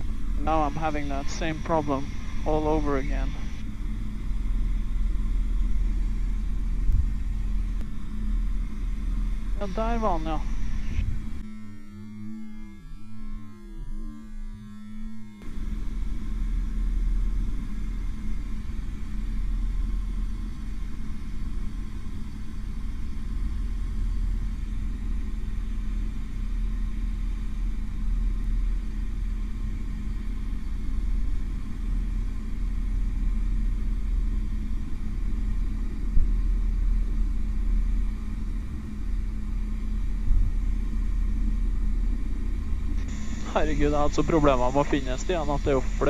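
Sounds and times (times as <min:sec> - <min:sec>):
helicopter rotor and turbine rumble: 0:00.0 - 0:46.0.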